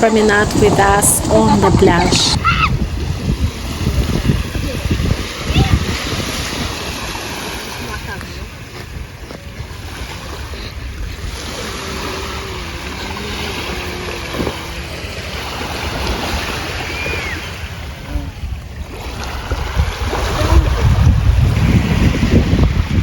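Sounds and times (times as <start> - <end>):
sea waves washing on shore: 0.0 - 23.0
wind buffeting microphone: 0.0 - 23.0.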